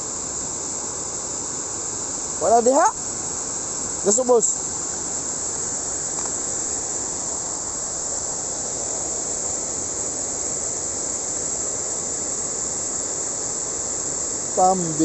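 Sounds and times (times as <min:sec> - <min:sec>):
water rushing over a weir: 0:00.0 - 0:15.0.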